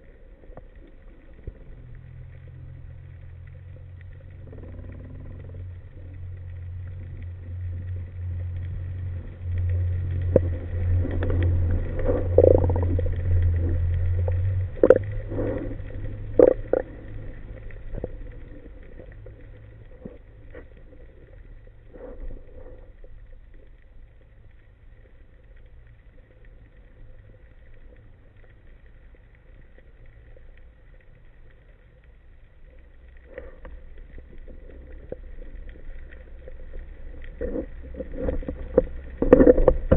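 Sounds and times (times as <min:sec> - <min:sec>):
underwater rumble: 0:00.0 - 0:39.9.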